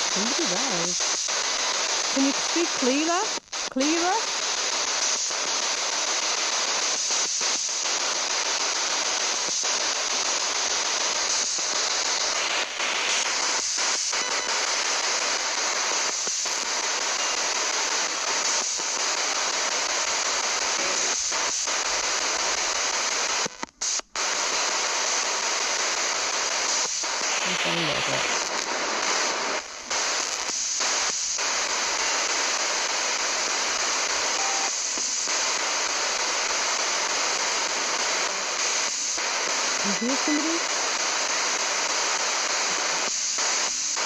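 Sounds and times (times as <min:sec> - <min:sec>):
radio static hiss: 0:00.0 - 0:44.0.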